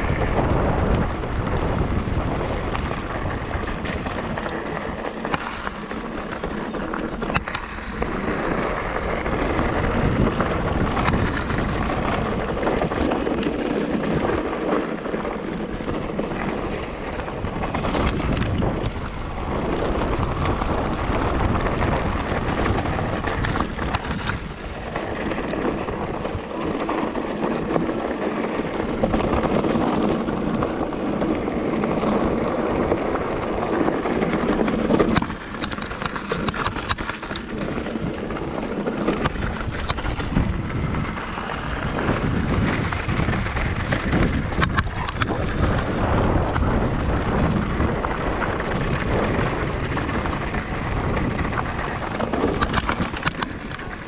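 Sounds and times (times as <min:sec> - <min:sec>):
bike clicks and rattles: 0:00.0 - 0:54.0
tyres rumbling on track: 0:00.0 - 0:54.0
wind rushing over microphone: 0:00.0 - 0:54.0.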